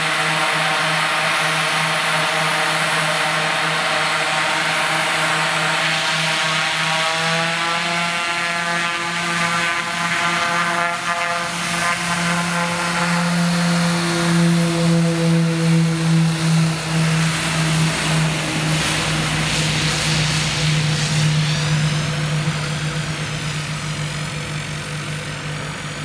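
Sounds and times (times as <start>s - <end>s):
high turbine whine: 0.0s - 26.0s
low propeller drone: 0.0s - 26.0s.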